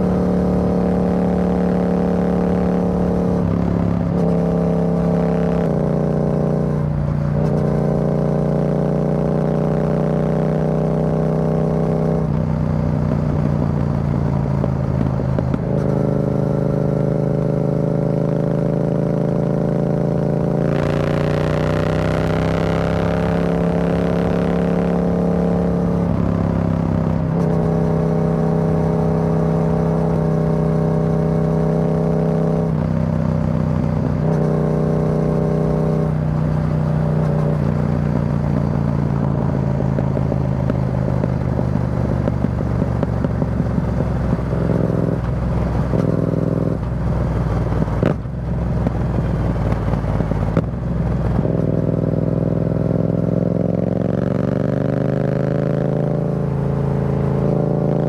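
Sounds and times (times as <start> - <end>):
motorcycle exhaust at highway speed: 0.0 - 58.0.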